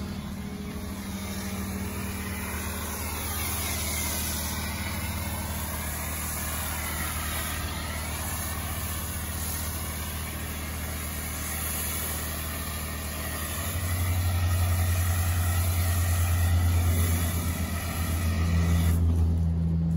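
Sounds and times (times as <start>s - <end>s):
pressure washer spray hiss: 0.0s - 19.1s
pressure washer motor hum: 0.0s - 19.5s.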